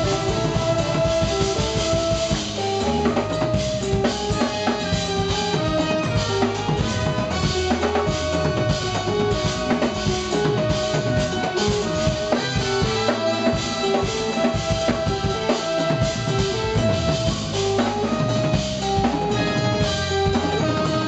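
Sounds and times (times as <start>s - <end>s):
drum kit playing: 0.0s - 21.0s
saxophone and trumpets melody: 0.0s - 21.0s.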